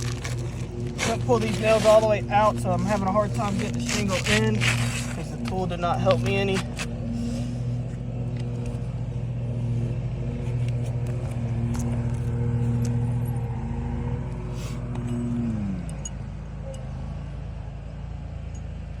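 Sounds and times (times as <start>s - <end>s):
motor humming: 0.0s - 16.7s.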